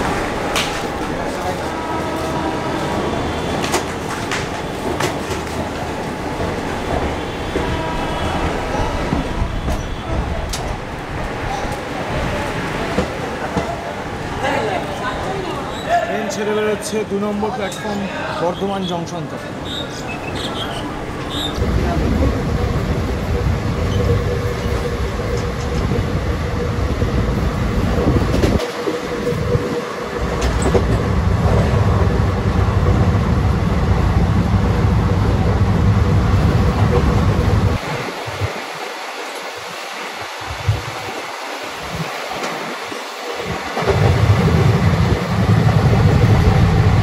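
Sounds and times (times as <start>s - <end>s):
train carriages rumbling: 0.0s - 47.0s.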